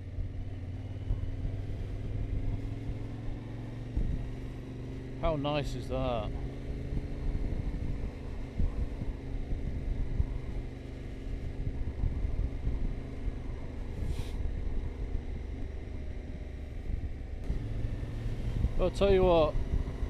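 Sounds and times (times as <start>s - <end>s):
motorcycle engine running: 0.0s - 20.0s
wind and road rumble: 0.0s - 20.0s.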